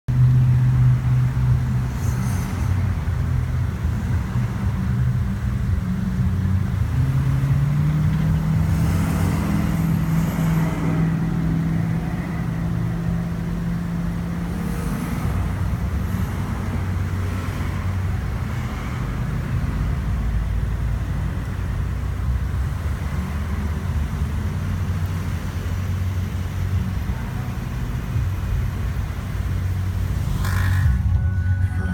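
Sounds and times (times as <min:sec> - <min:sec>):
car engine and road noise: 0:00.0 - 0:31.9.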